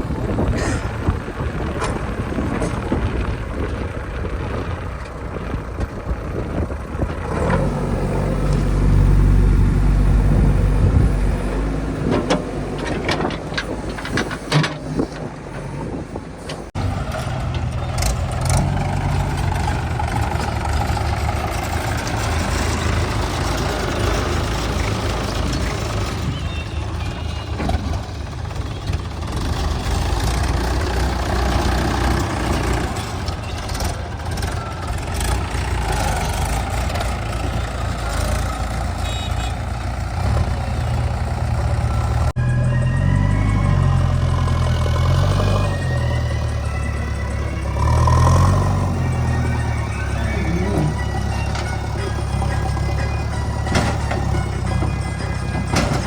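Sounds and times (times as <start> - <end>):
backhoe diesel engine working: 0.0 - 56.0.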